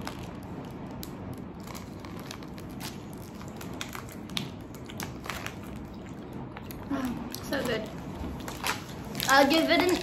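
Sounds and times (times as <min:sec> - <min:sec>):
candy packet crinkling: 0:00.0 - 0:10.0.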